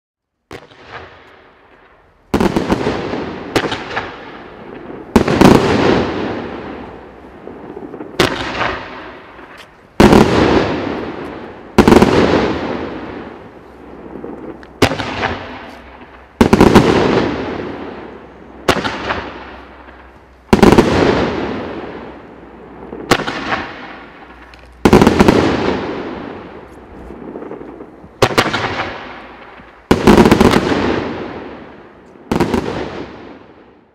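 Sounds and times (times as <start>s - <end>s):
fireworks bangs: 0.5s - 33.9s.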